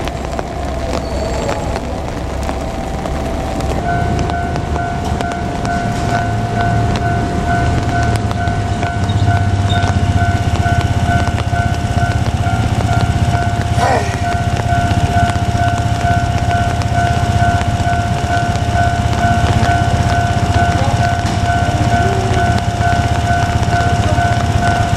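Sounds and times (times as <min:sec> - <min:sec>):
diesel railcar rumbling: 0:00.0 - 0:24.9
level crossing alarm ringing: 0:02.7 - 0:24.9.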